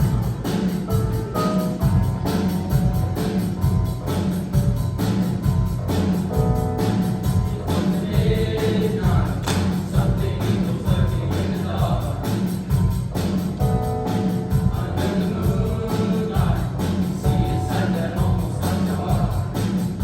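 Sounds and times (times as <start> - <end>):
band accompaniment: 0.0 - 20.0
steady drum beat: 0.0 - 20.0.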